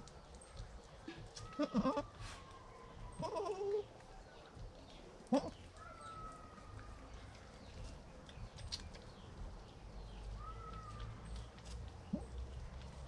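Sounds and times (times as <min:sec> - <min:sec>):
faint outdoor hush: 0:00.0 - 0:13.0.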